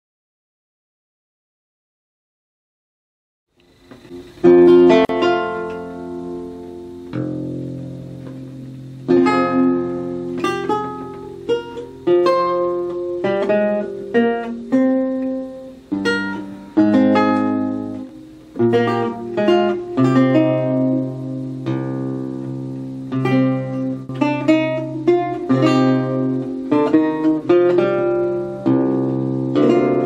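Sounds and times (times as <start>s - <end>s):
plucked lute chords and runs: 3.7s - 30.0s.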